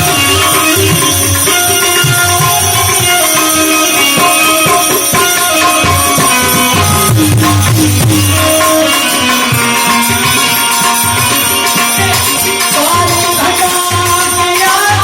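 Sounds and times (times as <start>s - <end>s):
melody of held notes: 0.0s - 14.6s
hand drum rhythm: 0.0s - 15.0s.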